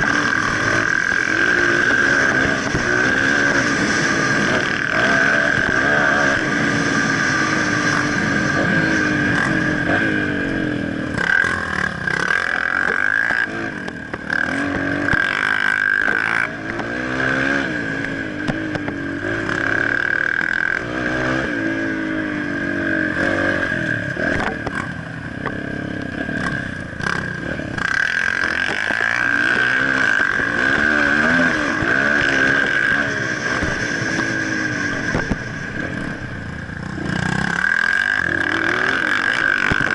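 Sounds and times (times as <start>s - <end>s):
motocross bike engine revving: 0.0s - 39.9s
steady high whine: 0.0s - 39.9s.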